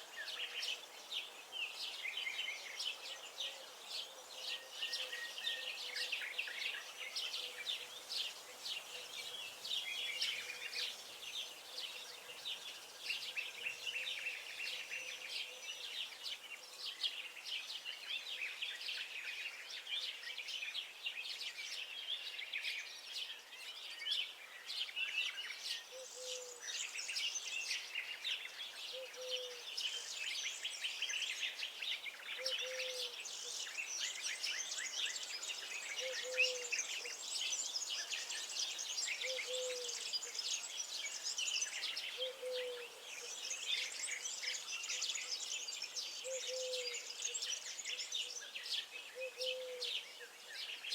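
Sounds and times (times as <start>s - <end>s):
songbirds chirping and singing: 0.0s - 50.9s.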